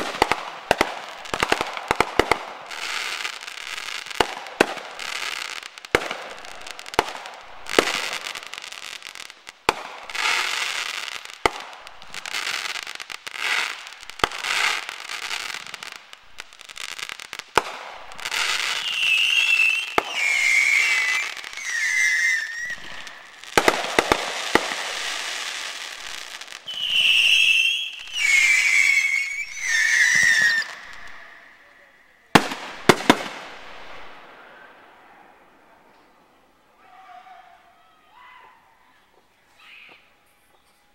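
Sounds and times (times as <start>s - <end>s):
fireworks bangs and crackling: 0.0s - 36.4s.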